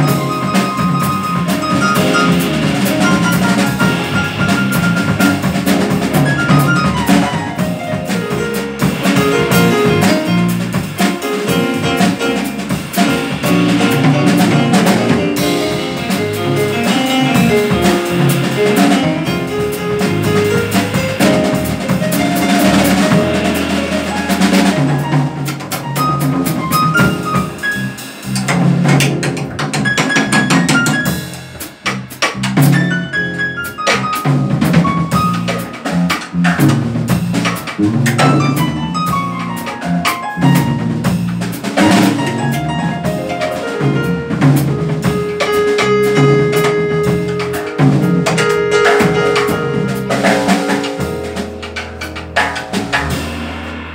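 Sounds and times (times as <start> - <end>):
drums: 0.0 - 53.9
jazz band playing: 0.0 - 53.9.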